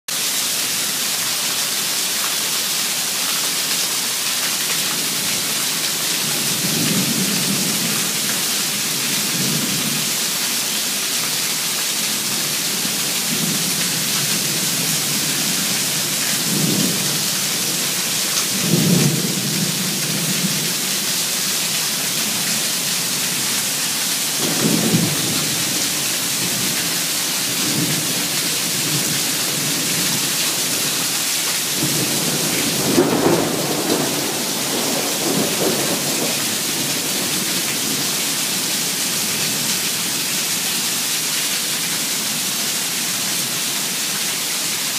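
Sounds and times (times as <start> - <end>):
water pouring from gutter: 0.1 - 44.9
heavy rain hiss: 0.2 - 44.9.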